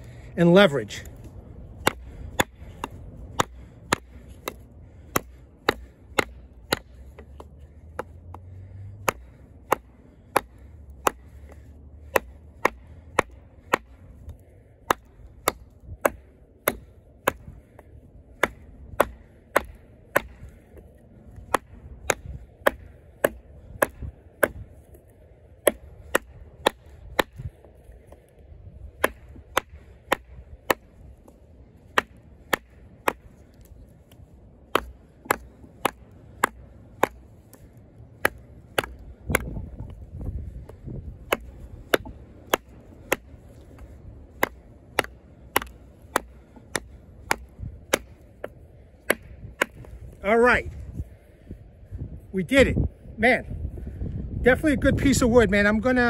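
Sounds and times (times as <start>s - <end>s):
knife chopping wood: 1.2s - 50.3s.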